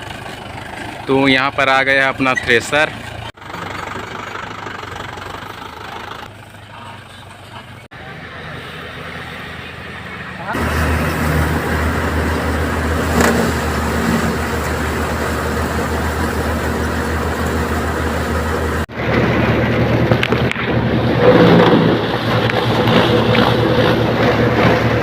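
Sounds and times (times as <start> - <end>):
engine with higher hum: 0.0 - 25.0
tractor engine running: 0.0 - 25.0.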